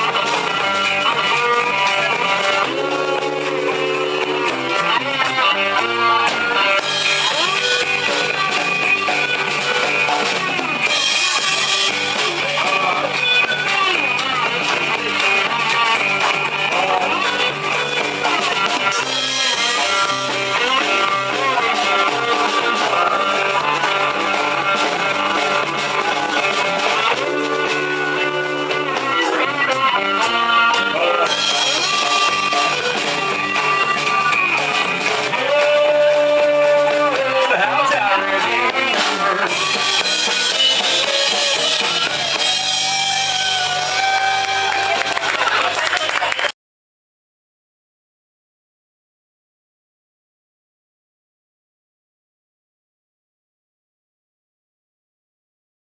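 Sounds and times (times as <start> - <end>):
rock guitar and drums: 0.0 - 46.5.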